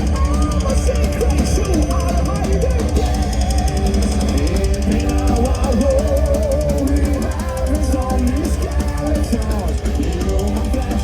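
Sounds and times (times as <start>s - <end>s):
electric guitars: 0.0s - 11.0s
fast driving drums and cymbals: 0.0s - 11.0s.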